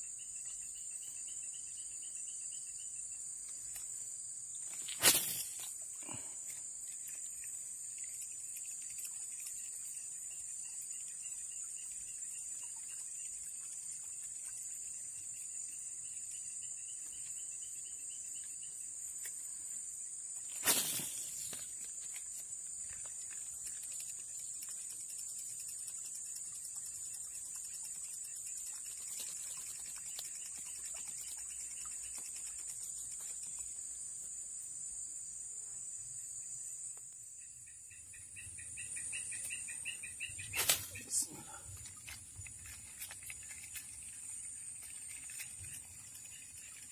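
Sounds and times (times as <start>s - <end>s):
insect chorus: 0.0s - 46.9s
pulsing insect call: 0.0s - 46.9s.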